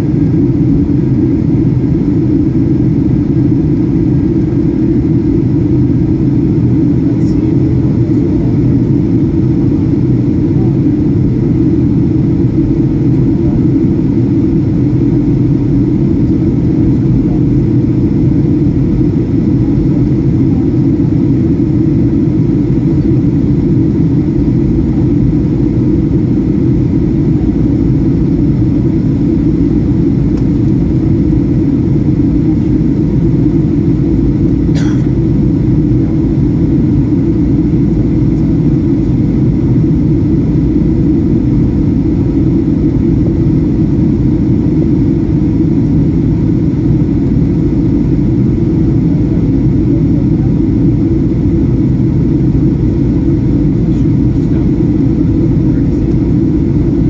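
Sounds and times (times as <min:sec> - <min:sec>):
faint steady hum: 0:00.0 - 0:57.0
jet engine and airflow rumble: 0:00.0 - 0:57.0.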